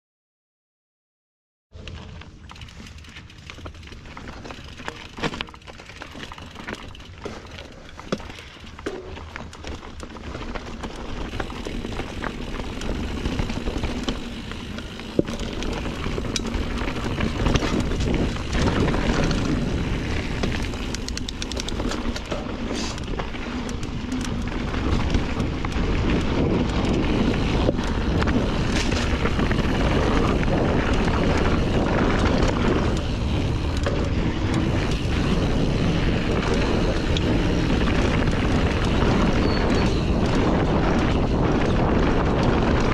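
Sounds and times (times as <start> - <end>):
bike clicks and rattles: 1.8 - 42.9
bike tyre noise: 1.8 - 42.9
wind rumbling over microphone: 3.6 - 42.9.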